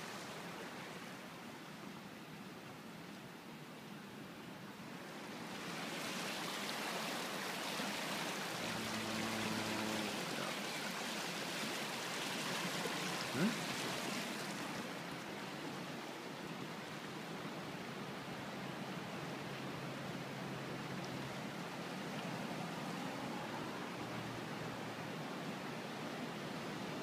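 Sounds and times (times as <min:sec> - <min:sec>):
creek water rushing over rocks: 0:00.0 - 0:27.0.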